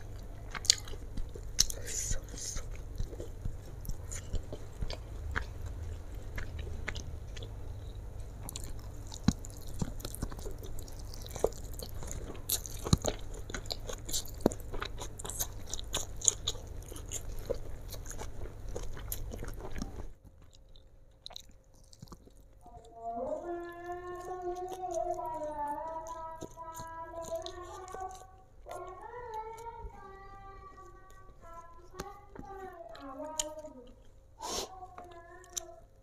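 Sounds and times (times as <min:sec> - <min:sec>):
low steady hum: 0:00.0 - 0:36.0
wet chewing of noodles: 0:00.0 - 0:36.0.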